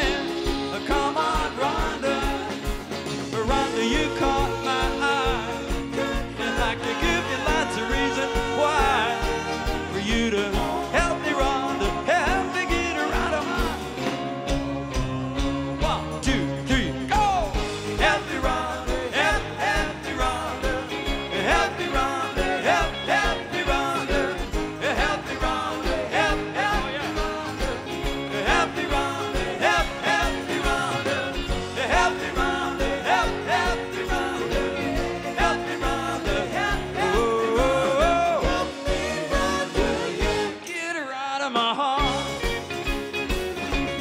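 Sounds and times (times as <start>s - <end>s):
electric guitars: 0.0s - 40.8s, 41.6s - 44.0s
keyboards: 0.0s - 40.9s
drums: 0.0s - 44.0s.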